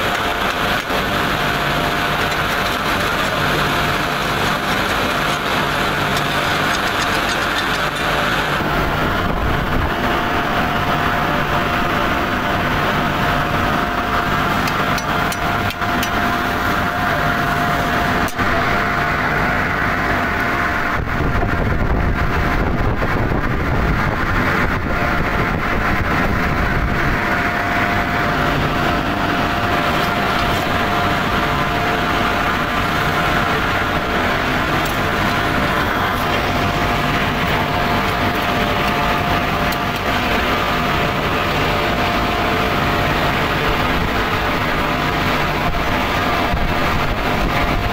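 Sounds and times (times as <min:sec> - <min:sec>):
industrial machinery rumble: 0:00.0 - 0:47.9
steady mid-pitched whine: 0:00.0 - 0:47.9.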